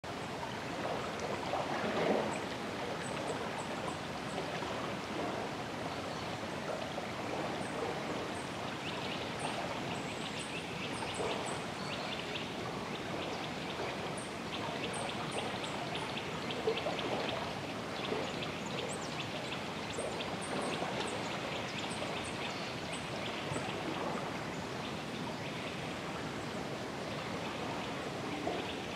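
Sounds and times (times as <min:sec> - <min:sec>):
river flowing: 0:00.1 - 0:28.9.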